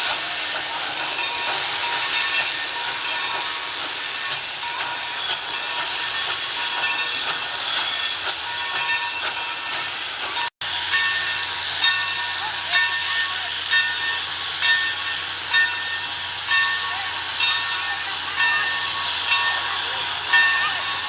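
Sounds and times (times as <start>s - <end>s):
ringing clack of train: 0.0s - 21.0s
steam train hissing: 0.0s - 21.0s.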